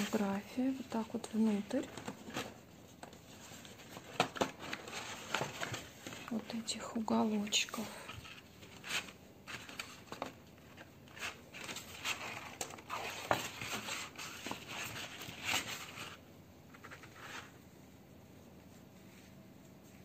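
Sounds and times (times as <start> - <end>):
paper rustling and crinkling: 0.0 - 17.6.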